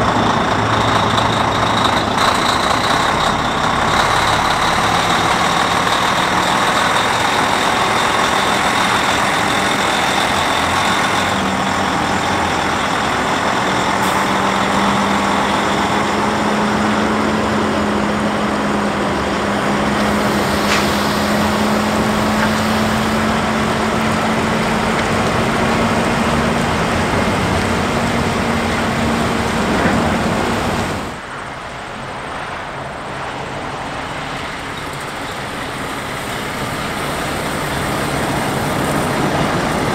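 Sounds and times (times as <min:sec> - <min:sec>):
diesel truck engine under load: 0:00.0 - 0:39.9
passing road traffic: 0:00.0 - 0:39.9.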